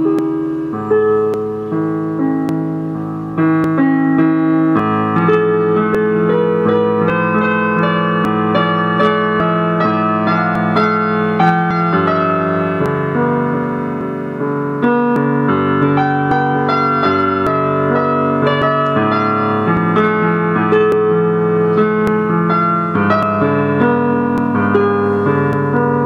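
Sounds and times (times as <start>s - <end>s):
slow mellow piano piece: 0.0s - 26.0s.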